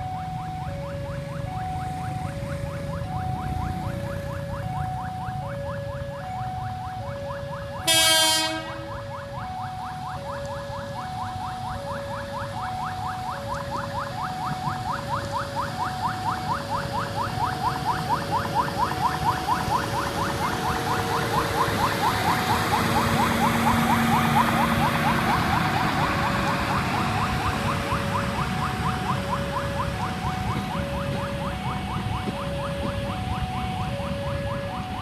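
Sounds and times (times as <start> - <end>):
passenger train passing: 0.0 - 10.1, 15.4 - 35.0
level crossing warning bell: 0.0 - 35.0.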